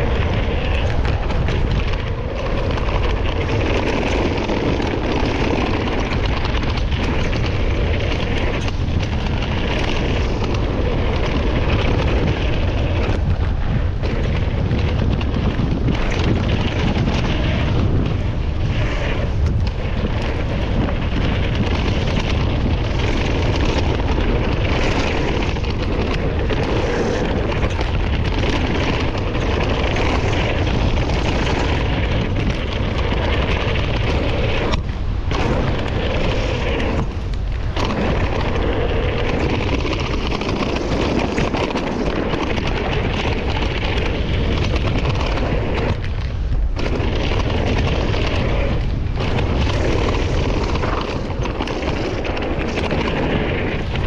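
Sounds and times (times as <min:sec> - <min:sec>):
bike tyre and trail noise: 0:00.0 - 0:54.0
wind buffeting microphone: 0:00.0 - 0:54.0.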